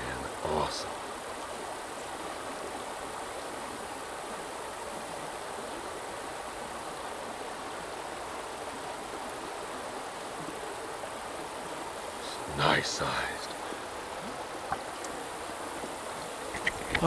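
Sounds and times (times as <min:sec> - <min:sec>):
light rain on a creek: 0:00.0 - 0:17.0.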